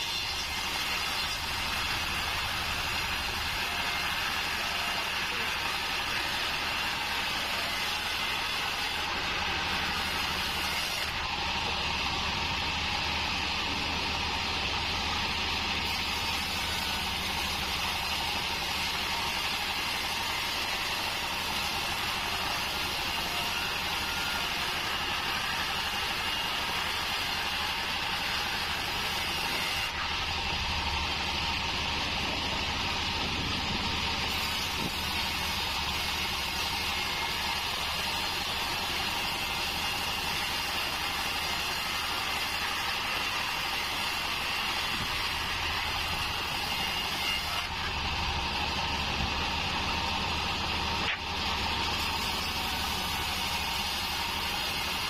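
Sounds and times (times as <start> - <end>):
band saw blade whining: 0.0 - 55.0
sawmill machine hum: 0.0 - 55.0.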